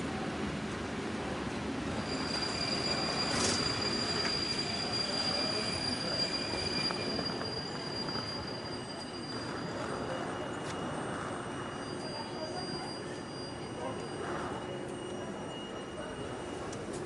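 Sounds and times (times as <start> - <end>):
high-pitched metallic squeal: 1.9 - 16.7.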